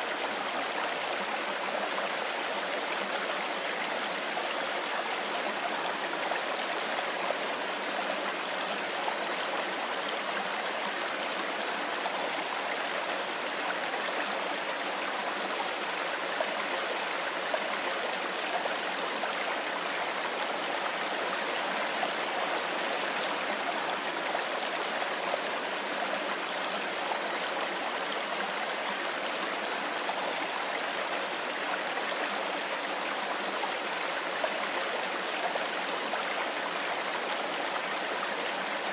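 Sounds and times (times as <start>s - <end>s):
river flowing over stones: 0.0s - 38.9s.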